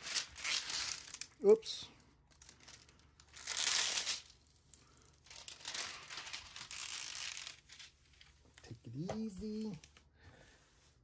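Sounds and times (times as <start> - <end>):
plastic sheet crinkling: 0.0 - 10.9.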